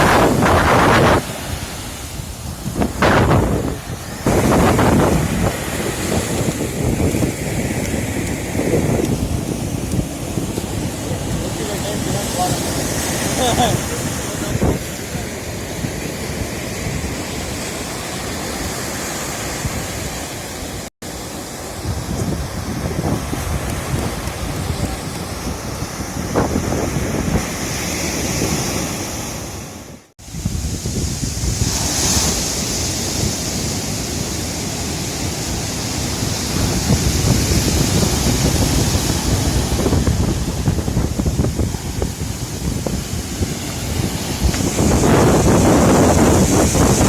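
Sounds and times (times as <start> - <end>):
wind buffeting microphone: 0.0 - 20.9, 21.6 - 47.0
sea surf rushing: 0.0 - 47.0.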